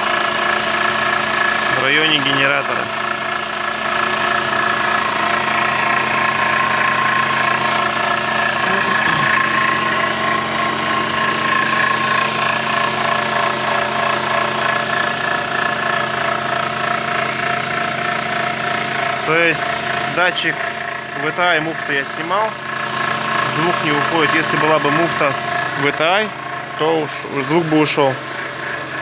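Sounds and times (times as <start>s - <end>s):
car engine idling: 0.0s - 29.0s
crackling rustling alternator noise: 0.0s - 29.0s.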